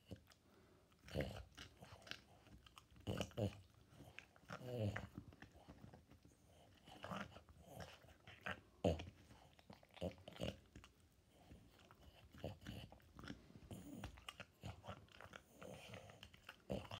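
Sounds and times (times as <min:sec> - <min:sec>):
dog gnawing on a bone: 0:00.0 - 0:16.9.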